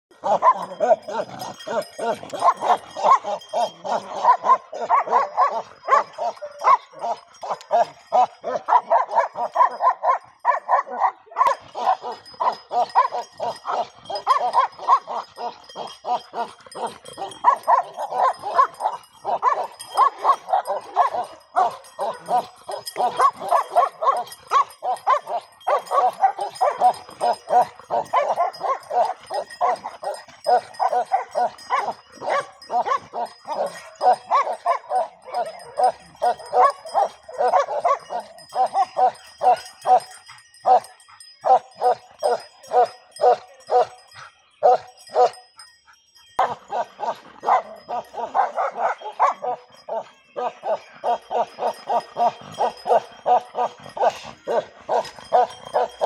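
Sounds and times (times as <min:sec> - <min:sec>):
young dogs barking and yapping: 0:00.1 - 0:56.0.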